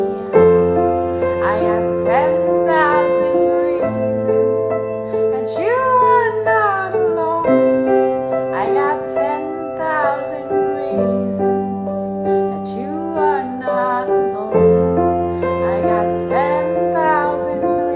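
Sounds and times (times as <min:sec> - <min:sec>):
held keyboard chords: 0:00.0 - 0:17.9
woman singing: 0:00.0 - 0:17.9.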